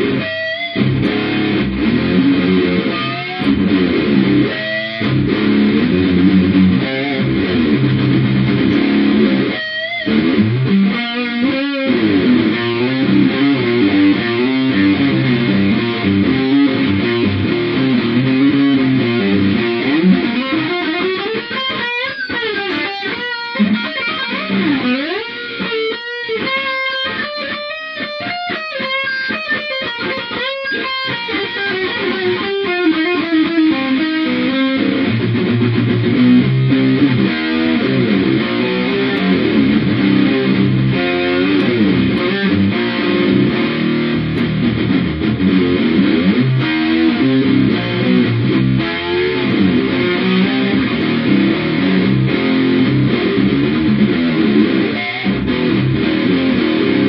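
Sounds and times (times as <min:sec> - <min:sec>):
electric guitar playing metal: 0:00.0 - 0:57.0.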